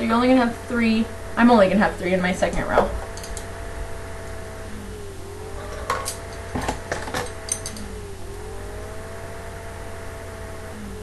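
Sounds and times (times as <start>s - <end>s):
computer fan whining: 0.0s - 11.0s.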